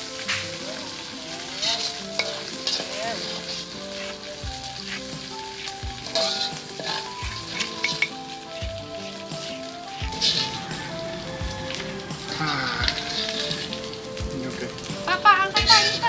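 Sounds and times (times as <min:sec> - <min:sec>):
background music melody: 0:00.0 - 0:16.0
fish sizzling in hot oil: 0:00.0 - 0:16.0.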